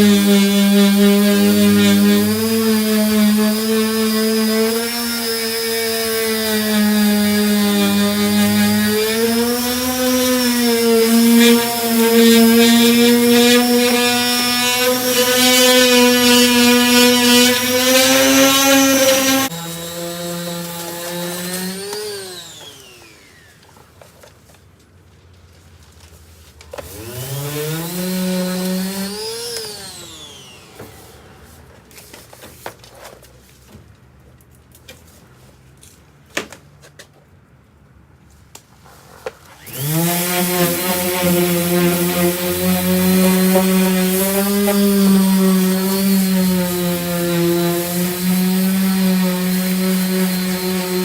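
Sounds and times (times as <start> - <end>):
power sander whining: 0.0 - 24.1, 26.7 - 31.9, 39.5 - 51.0.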